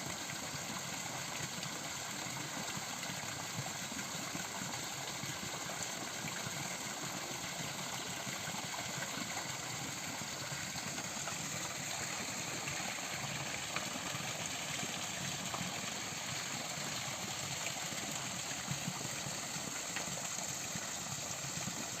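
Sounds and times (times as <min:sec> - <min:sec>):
constant high hiss: 0:00.0 - 0:22.0.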